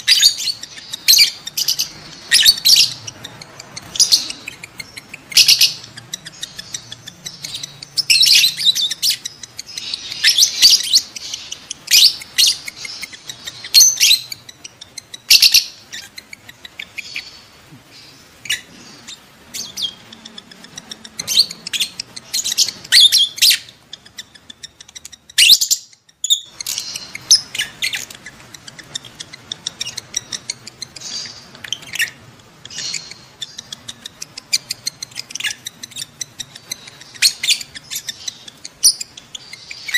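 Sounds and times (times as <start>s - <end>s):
lovebirds chirping and squeaking: 0.0s - 39.9s.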